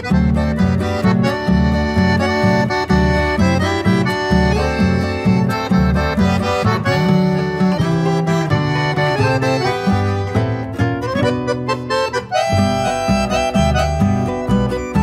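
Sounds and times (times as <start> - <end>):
accordion music with guitar: 0.0 - 15.0
bouncing bass line: 0.0 - 15.0.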